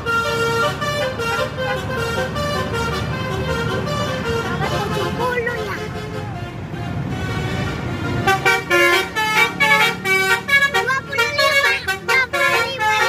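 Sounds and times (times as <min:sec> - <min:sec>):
bus engine rumble: 0:00.0 - 0:13.0
multi-tone musical bus horn: 0:00.0 - 0:13.0.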